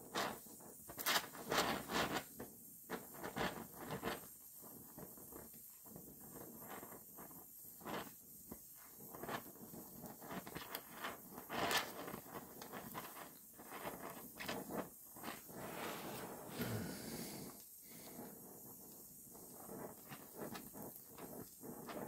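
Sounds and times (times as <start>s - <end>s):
welding torch hissing: 0.0s - 22.0s.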